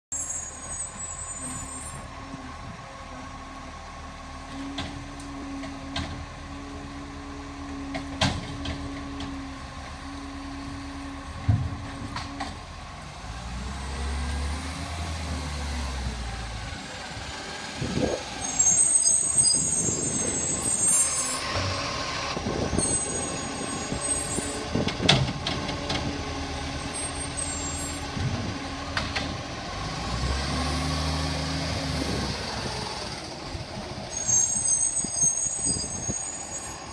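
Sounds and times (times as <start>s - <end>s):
garbage truck engine idling and revving: 0.2s - 36.9s.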